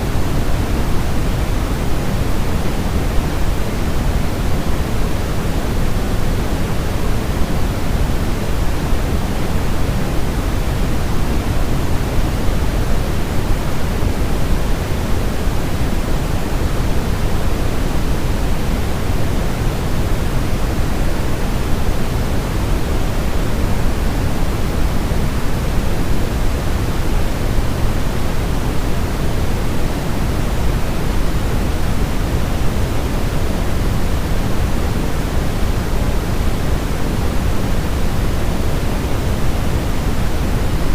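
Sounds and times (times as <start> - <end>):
low white noise hiss: 0.0 - 40.9.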